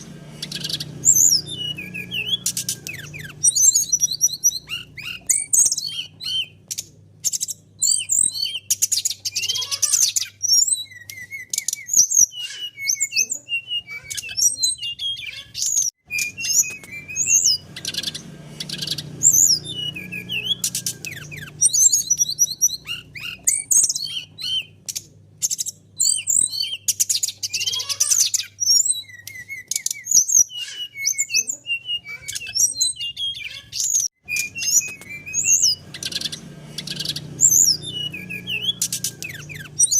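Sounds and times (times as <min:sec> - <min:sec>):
bird rattling trills: 0:00.0 - 0:12.6, 0:15.7 - 0:30.8, 0:33.9 - 0:39.9
bird whistles and chirps: 0:00.0 - 0:39.9.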